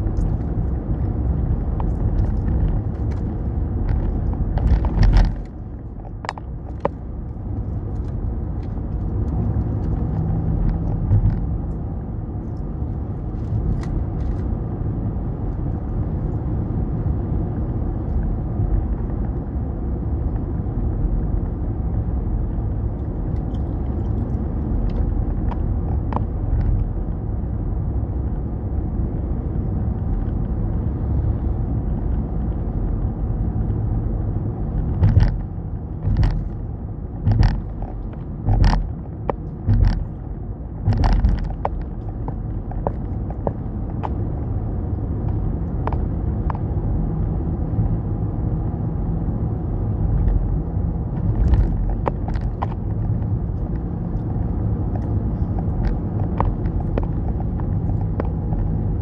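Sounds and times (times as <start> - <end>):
car driving at speed from inside: 0.0 - 59.0.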